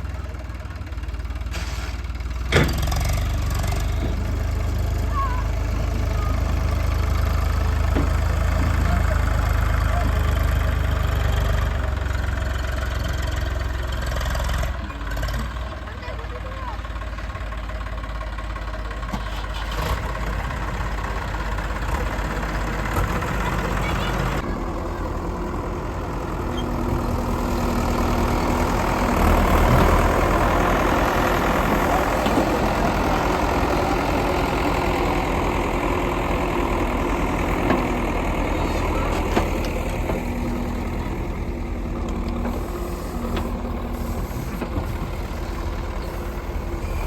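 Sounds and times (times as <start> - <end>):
heavy machinery diesel engine running: 0.0 - 47.0.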